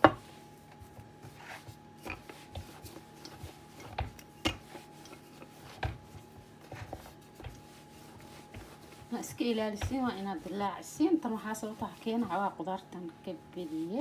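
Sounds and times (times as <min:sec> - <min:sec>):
rolling pin rolling dough on board: 0:00.0 - 0:14.0.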